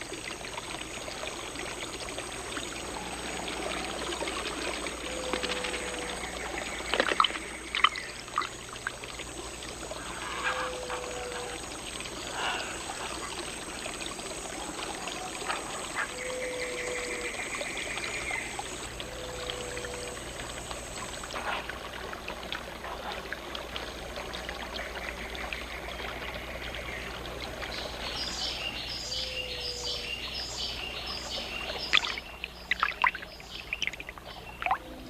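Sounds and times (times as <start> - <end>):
river water running: 0.0 - 35.0.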